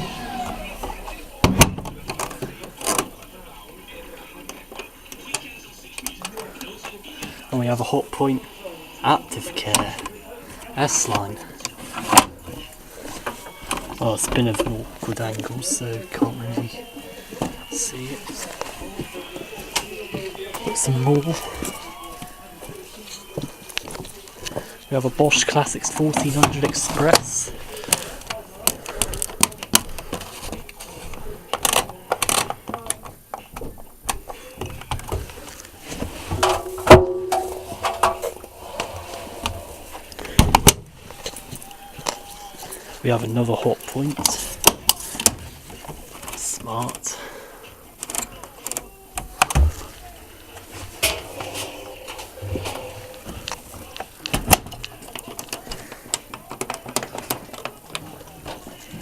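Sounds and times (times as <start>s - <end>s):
faint indoor room noise: 0.0s - 59.0s.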